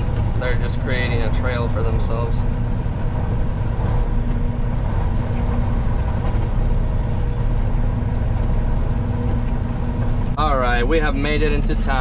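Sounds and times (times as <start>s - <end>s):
diesel engine drone in cab: 0.0s - 12.0s
road noise: 0.0s - 12.0s.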